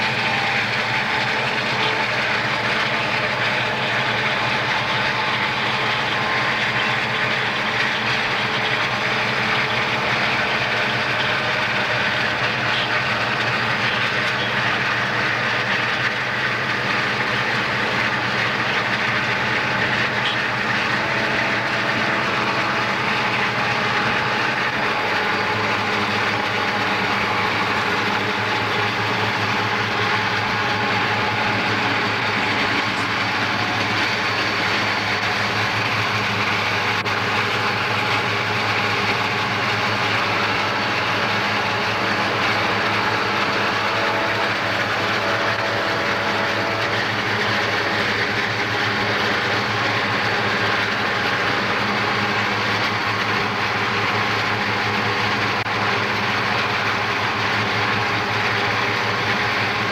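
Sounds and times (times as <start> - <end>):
diesel locomotives droning: 0.0 - 59.9.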